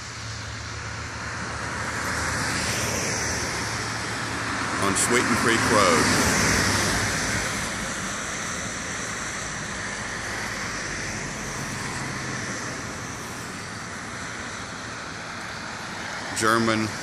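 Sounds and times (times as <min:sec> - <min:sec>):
roadside traffic: 0:00.0 - 0:17.0.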